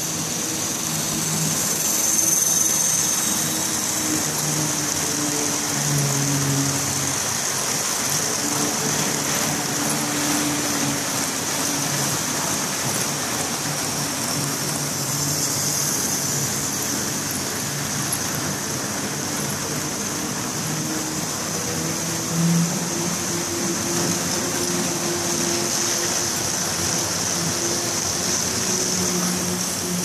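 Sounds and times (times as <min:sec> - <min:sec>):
model train wheels rolling: 0:00.0 - 0:30.0.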